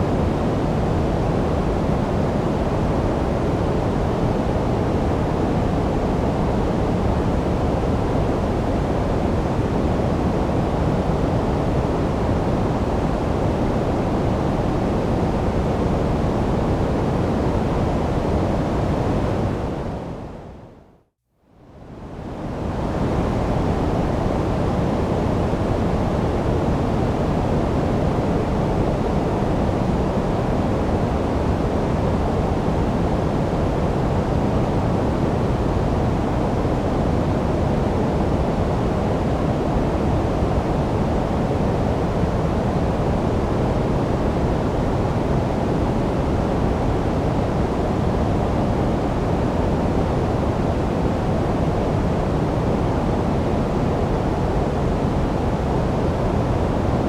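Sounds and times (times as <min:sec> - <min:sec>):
low steady noise rush: 0:00.0 - 0:57.0.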